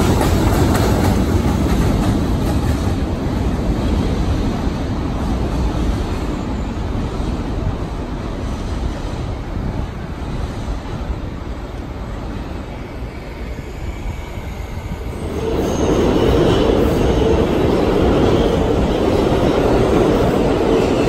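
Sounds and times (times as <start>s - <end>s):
subway train low rumble: 0.0s - 21.0s
train passing close by: 0.0s - 21.0s.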